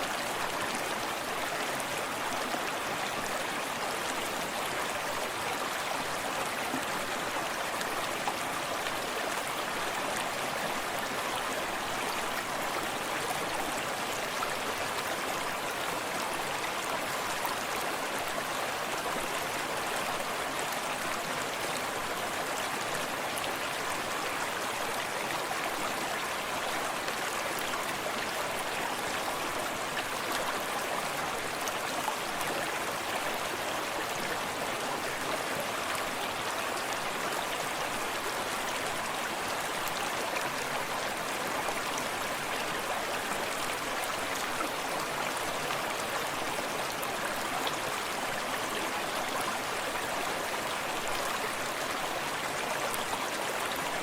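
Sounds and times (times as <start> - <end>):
creek running over stones: 0.0 - 54.0.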